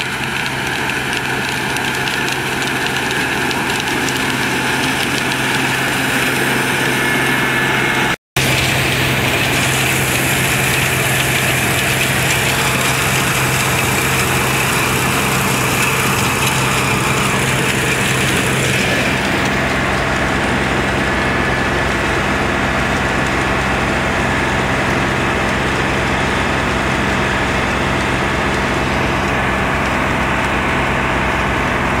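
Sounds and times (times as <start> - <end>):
combine harvester engine and threshing: 0.0 - 32.0.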